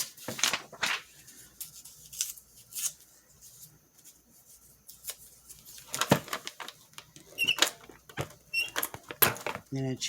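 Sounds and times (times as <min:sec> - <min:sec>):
paper rustling: 0:00.0 - 0:09.7.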